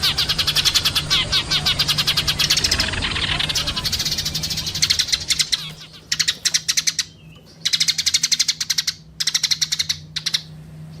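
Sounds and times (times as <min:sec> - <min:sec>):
sparrow chirping: 0:00.0 - 0:11.0.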